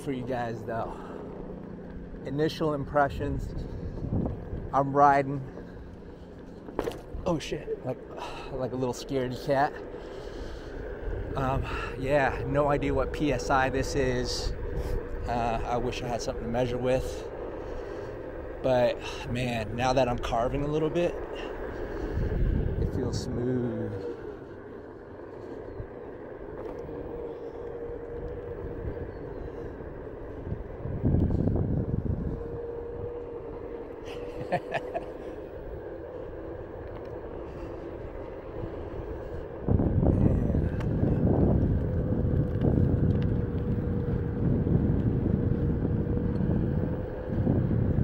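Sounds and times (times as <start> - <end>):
electric board rolling on concrete: 0.0 - 48.0
hub motor whine: 0.0 - 48.0
wind on microphone: 2.1 - 5.8, 10.2 - 48.0.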